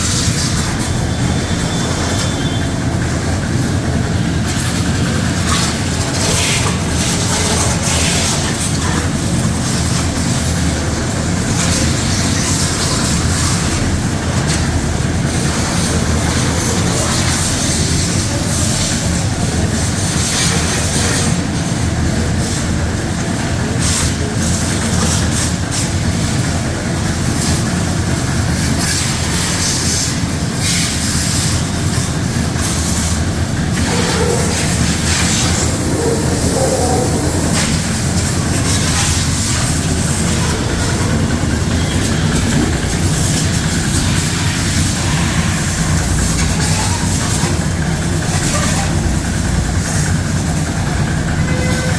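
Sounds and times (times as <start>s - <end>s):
water jet spraying: 0.0s - 51.8s
pressure washer motor droning: 0.0s - 51.9s.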